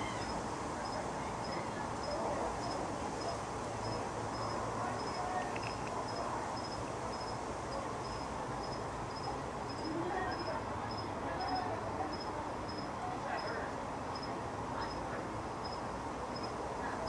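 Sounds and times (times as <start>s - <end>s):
cricket chirping: 0.1s - 15.0s, 15.6s - 16.6s.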